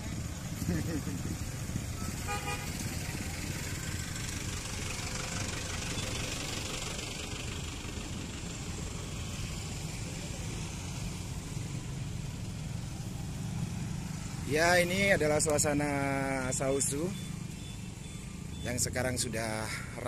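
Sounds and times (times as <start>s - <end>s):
scooters and cars in traffic: 0.0s - 20.0s.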